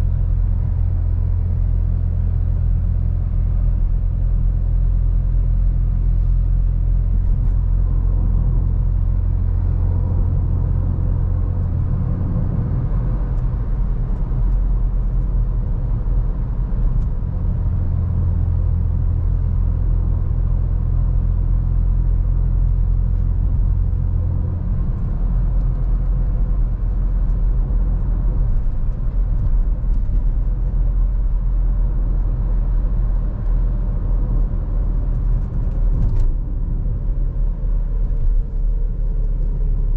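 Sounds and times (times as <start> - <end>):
car exhaust drone: 0.0 - 39.9
road rumble: 0.0 - 39.9.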